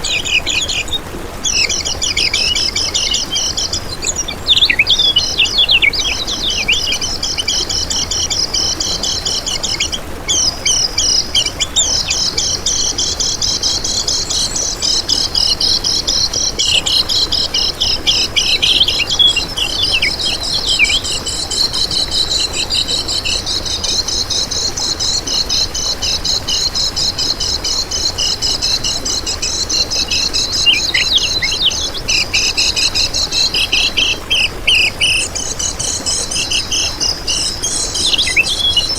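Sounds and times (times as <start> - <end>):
bird chattering twitters and trills: 0.0 - 38.9.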